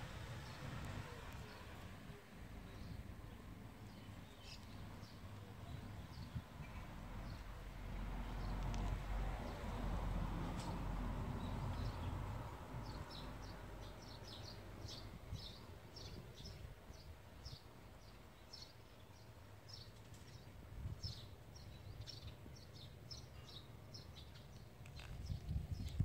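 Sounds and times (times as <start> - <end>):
small birds chirping: 0.1 - 9.6, 11.4 - 26.0.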